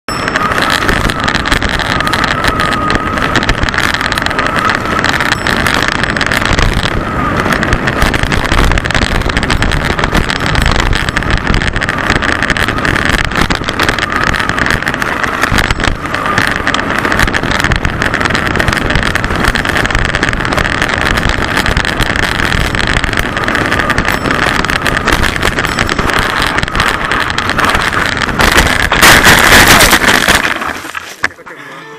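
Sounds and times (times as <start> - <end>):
wind noise: 0.1 - 31.4
bike clattering over bumps: 0.1 - 31.5
bike crash: 0.1 - 31.6.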